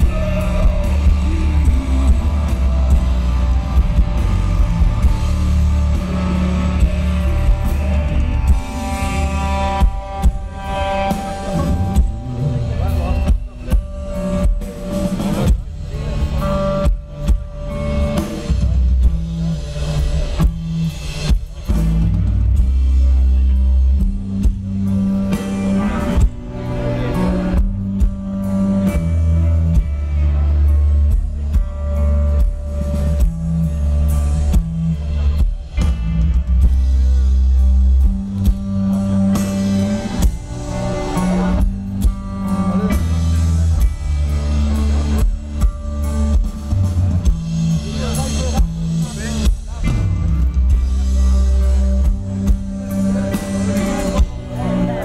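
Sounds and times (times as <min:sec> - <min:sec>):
heavy guitars and bass: 0:00.0 - 0:55.0.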